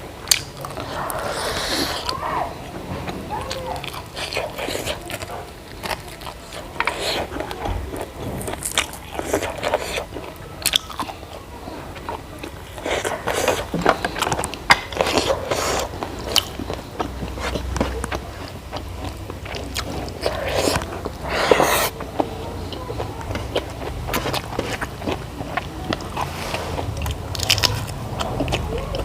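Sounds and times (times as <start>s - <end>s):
chewing and crunching food: 0.0s - 29.0s.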